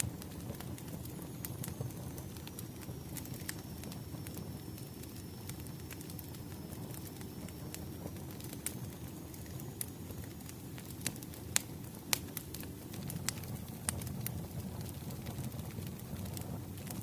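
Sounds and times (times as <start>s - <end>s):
sharp pops of burning logs: 0.0s - 17.0s
wood fire crackling: 0.0s - 17.0s.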